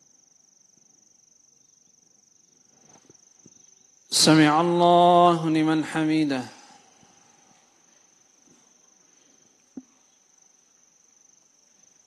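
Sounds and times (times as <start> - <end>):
high cricket trill: 0.0 - 12.0.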